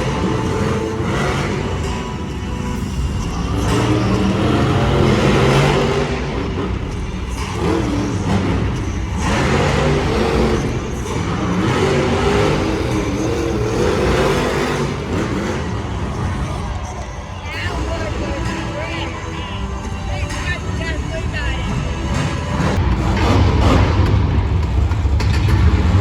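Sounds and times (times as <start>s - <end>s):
truck engine revving hard: 0.0s - 26.0s.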